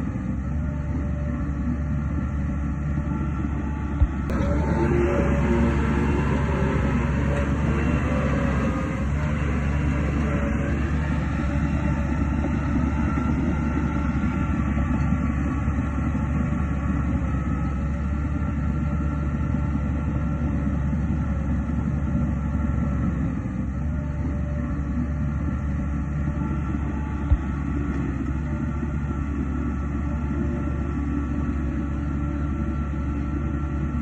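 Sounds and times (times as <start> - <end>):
bulldozer diesel engine rumbling: 0.0 - 34.0.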